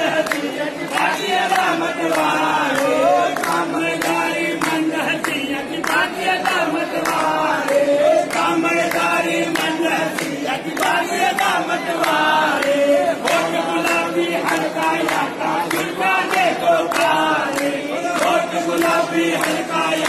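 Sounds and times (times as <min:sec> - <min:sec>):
group chanting a devotional song: 0:00.0 - 0:20.0.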